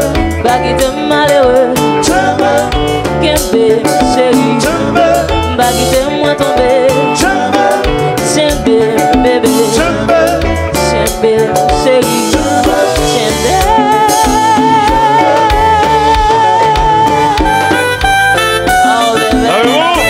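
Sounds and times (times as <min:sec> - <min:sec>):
person singing: 0:00.0 - 0:18.0, 0:18.6 - 0:20.0
drum kit beat: 0:00.0 - 0:20.0
electric guitars: 0:00.0 - 0:20.0.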